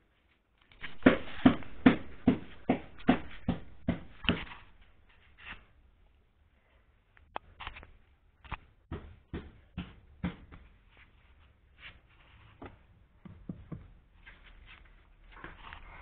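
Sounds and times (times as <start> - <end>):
carpet rustling: 0.0 - 8.8, 9.6 - 16.0.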